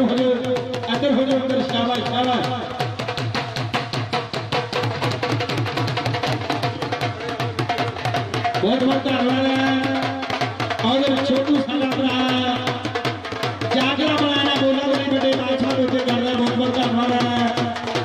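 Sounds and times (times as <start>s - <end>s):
drums beating fast rhythm: 0.0s - 18.0s.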